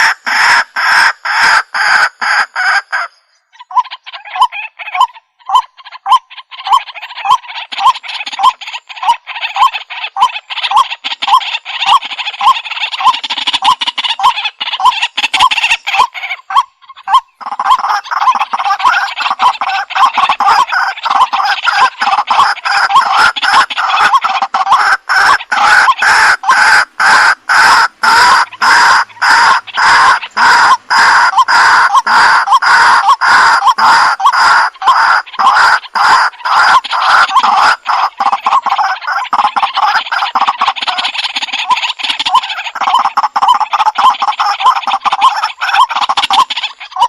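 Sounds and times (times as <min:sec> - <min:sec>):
waterhen harsh call: 0:00.0 - 0:47.0.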